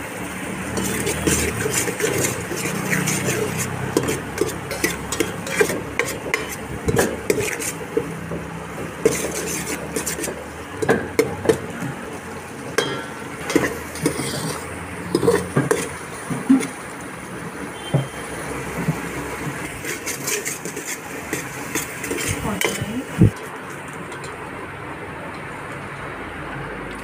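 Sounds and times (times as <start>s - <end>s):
spoon stirring in metal pot: 0.6s - 16.8s, 18.7s - 24.5s.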